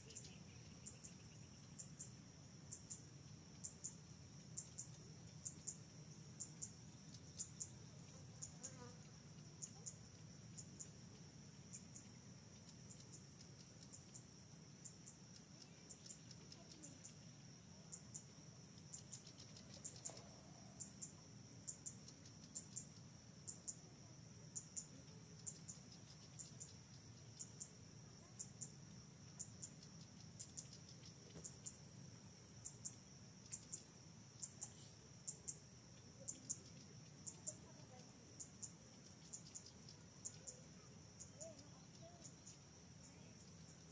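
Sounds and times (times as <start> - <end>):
insects chirping: 0.0 - 43.9.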